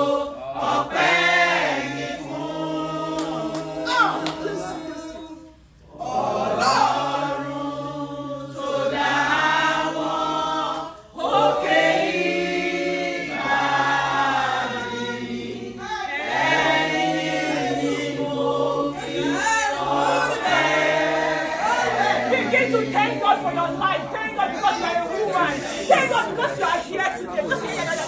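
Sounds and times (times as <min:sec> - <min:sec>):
women singing gospel unaccompanied: 0:00.0 - 0:28.0.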